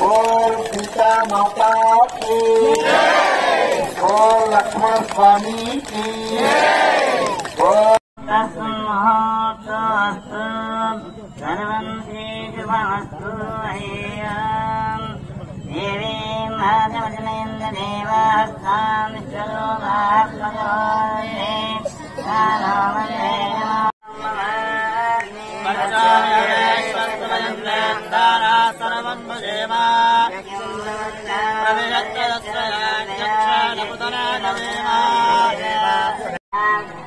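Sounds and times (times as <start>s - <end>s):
voices singing a devotional chant: 0.0s - 37.0s.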